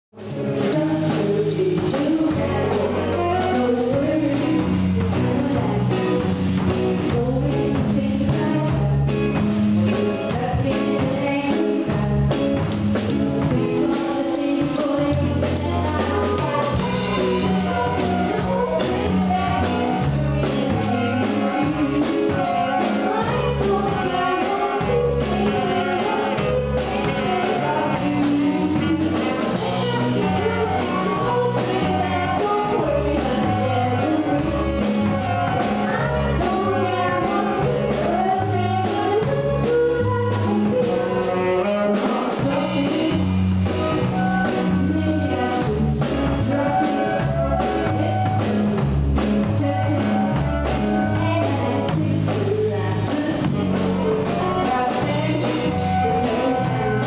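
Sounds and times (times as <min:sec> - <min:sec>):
live rock band playing: 0:00.2 - 0:57.0.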